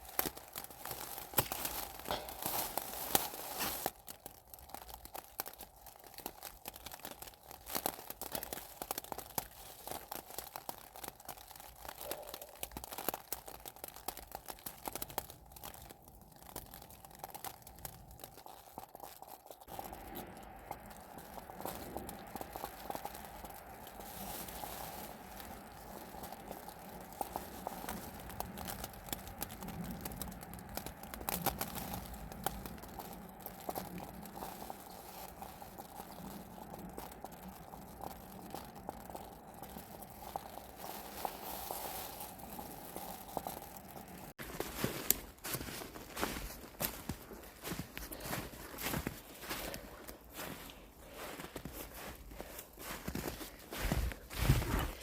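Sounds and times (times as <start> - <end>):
close crunching and crackling: 0.0 - 55.0.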